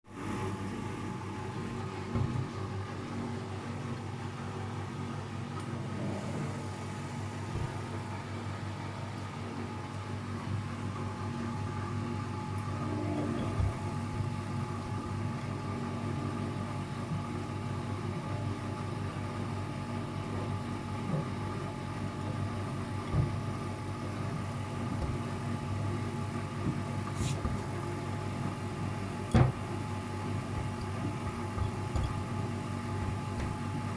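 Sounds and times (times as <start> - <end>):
washing machine spinning: 0.1 - 33.9.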